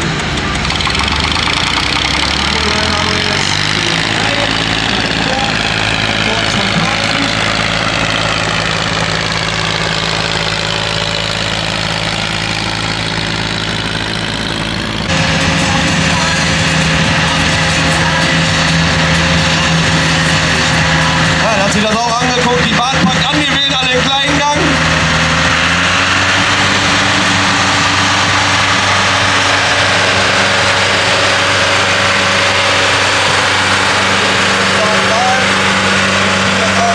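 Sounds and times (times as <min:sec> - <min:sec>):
tractor engine idling: 0:00.0 - 0:36.9.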